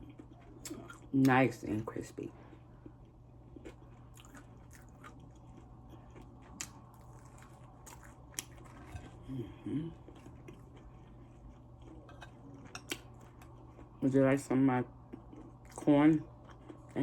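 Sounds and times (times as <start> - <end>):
chewing crispy fried chicken: 0.0 - 17.0.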